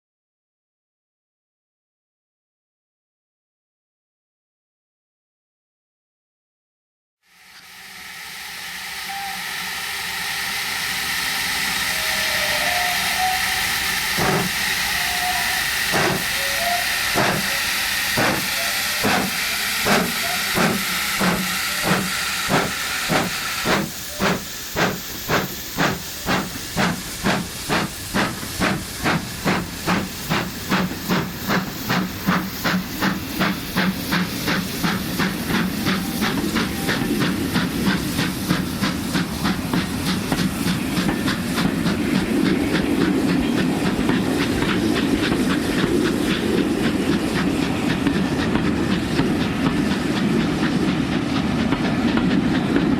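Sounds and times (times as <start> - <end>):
hiss of escaping steam: 7.3 - 52.9
steam locomotive exhaust chuffs: 7.3 - 52.9.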